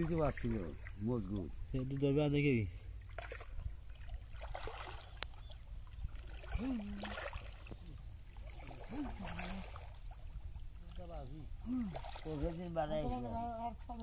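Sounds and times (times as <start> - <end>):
river water sloshing and splashing: 0.0 - 14.0.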